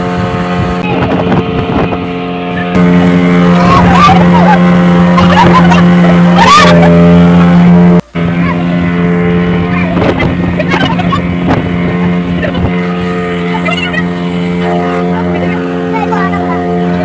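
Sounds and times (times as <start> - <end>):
hull rushing through water: 0.0 - 17.0
outboard motor running: 0.0 - 17.0.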